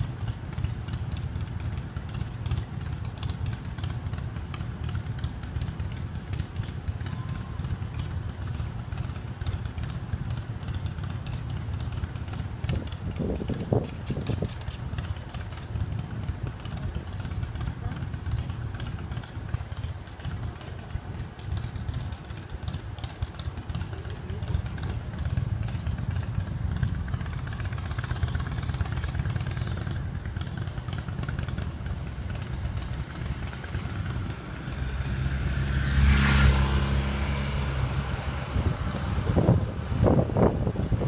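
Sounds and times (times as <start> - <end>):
car and motorcycle engines rumbling: 0.0 - 41.0
deeper engine hum: 0.0 - 41.0.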